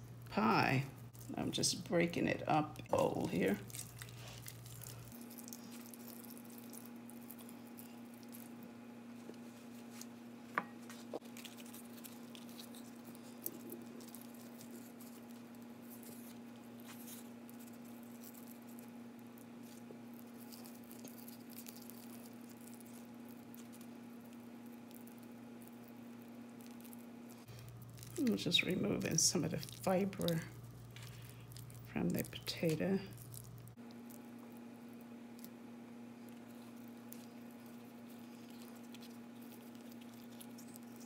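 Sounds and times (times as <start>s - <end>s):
steady low hum: 0.0s - 41.0s
hands squishing soft food: 2.5s - 41.0s.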